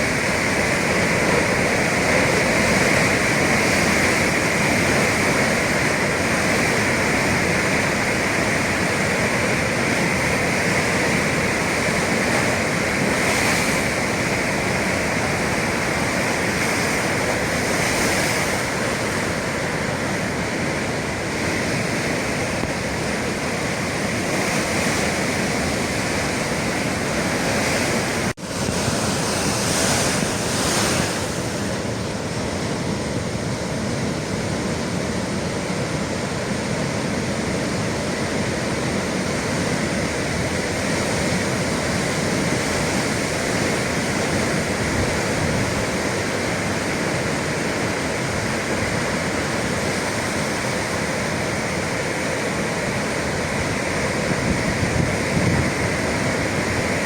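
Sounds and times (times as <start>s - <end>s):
waves breaking on shore: 0.0s - 57.0s
wind: 0.0s - 57.0s.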